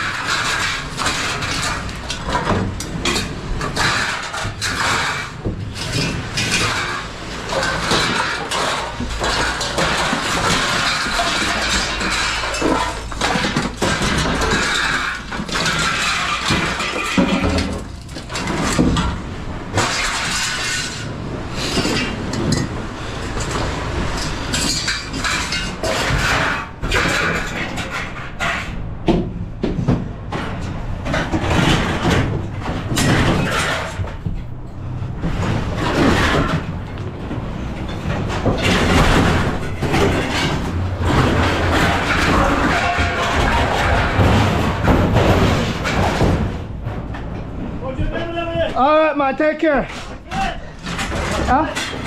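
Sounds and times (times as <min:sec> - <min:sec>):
metal clanks and crashes: 0:00.0 - 0:52.0.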